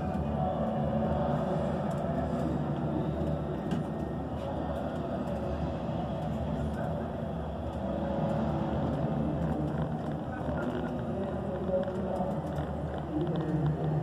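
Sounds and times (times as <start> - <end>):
stadium crowd murmur: 0.0 - 14.0.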